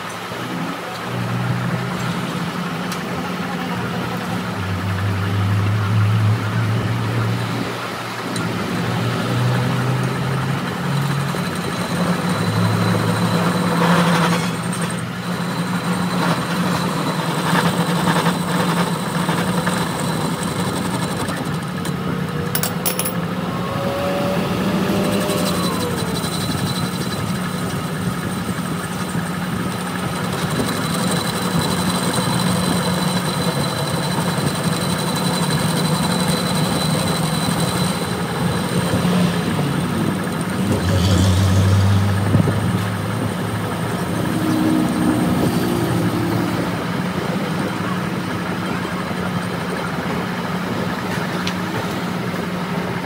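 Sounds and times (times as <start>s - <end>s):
metal lathe cutting: 7.4s - 53.0s.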